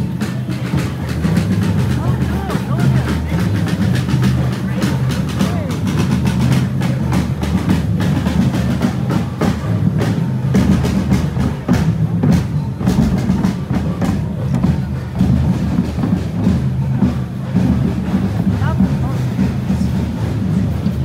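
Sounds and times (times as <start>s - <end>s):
bass drums rumbling: 0.0s - 21.0s.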